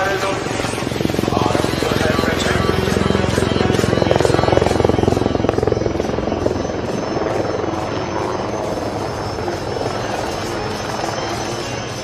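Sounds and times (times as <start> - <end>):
helicopter rotor beating: 0.0 - 12.0
high turbine engine whine: 0.0 - 12.0.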